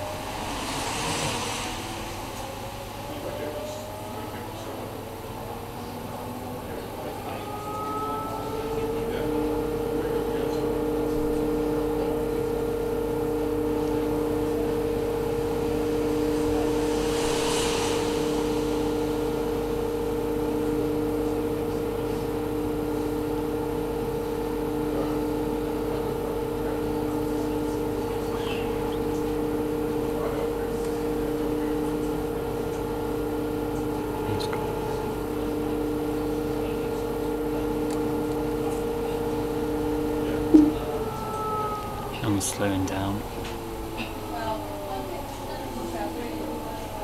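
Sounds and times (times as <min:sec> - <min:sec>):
washing machine drum spinning: 0:08.0 - 0:47.0.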